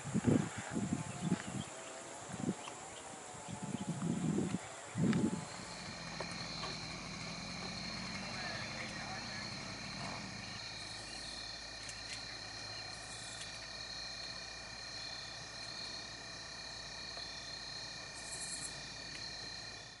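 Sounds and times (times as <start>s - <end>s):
high pulsing insect buzz: 0.0s - 20.0s
insect trills: 0.0s - 20.0s.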